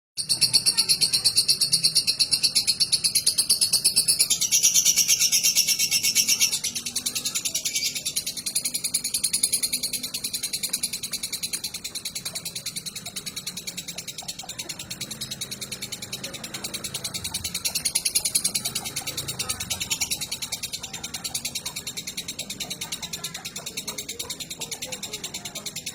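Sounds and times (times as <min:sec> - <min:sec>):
lovebird chattering song: 0:00.2 - 0:25.9.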